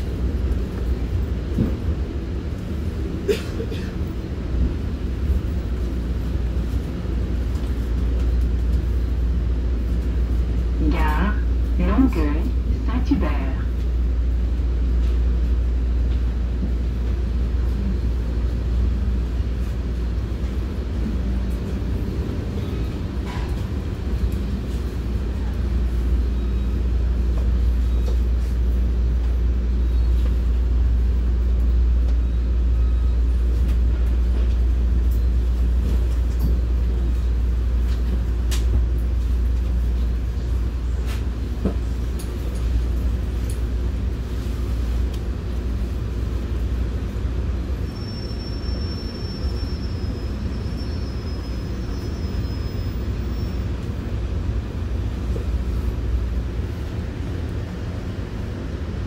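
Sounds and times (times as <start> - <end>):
train rumble inside coach: 0.0 - 59.0.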